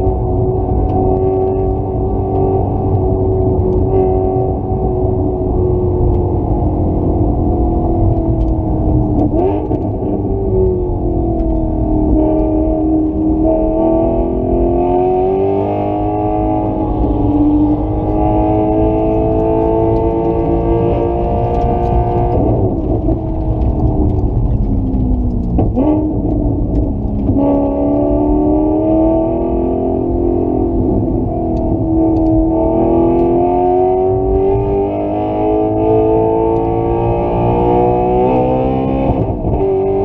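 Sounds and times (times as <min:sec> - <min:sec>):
engine accelerating hard: 0:00.0 - 0:40.0.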